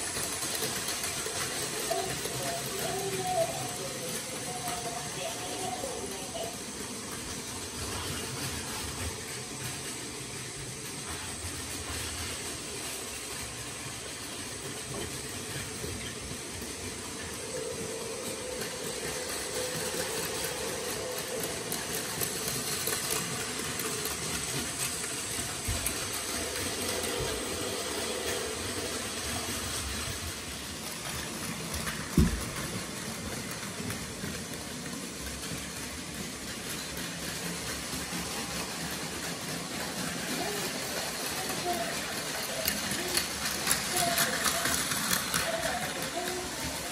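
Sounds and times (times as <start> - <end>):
toy train motors whirring: 0.0 - 46.9
wheels rattling over rails: 0.0 - 46.9.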